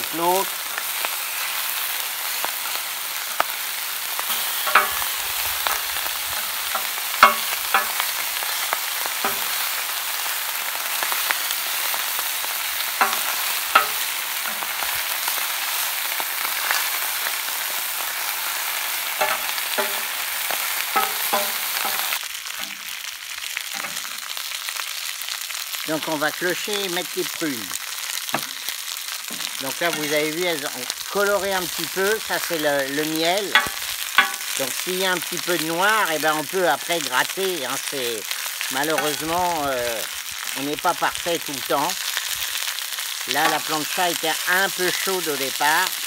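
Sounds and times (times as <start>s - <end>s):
meat sizzling on griddle: 0.0s - 46.0s.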